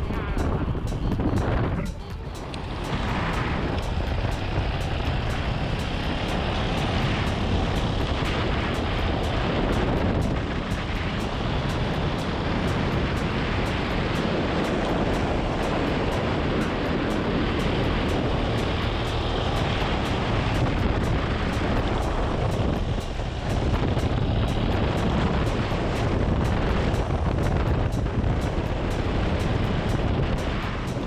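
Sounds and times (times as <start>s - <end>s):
motorcycle engine: 0.0s - 31.0s
road noise: 0.0s - 31.0s
wind buffeting microphone: 0.0s - 31.0s.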